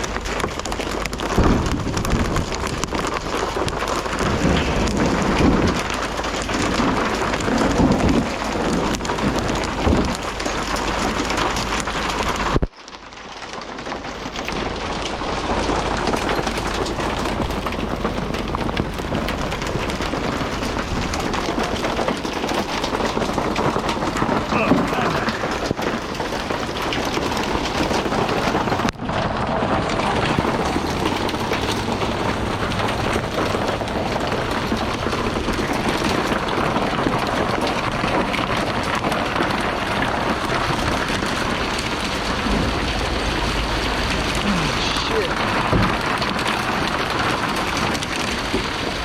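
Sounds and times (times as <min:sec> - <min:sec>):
heavy rain pouring: 0:00.0 - 0:49.0
low rumbles: 0:00.0 - 0:49.0.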